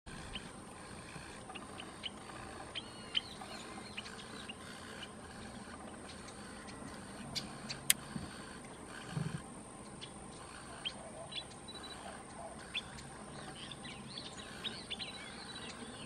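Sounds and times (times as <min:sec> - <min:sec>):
birds chirping: 0:00.1 - 0:16.0
outdoor background noise: 0:00.1 - 0:16.0.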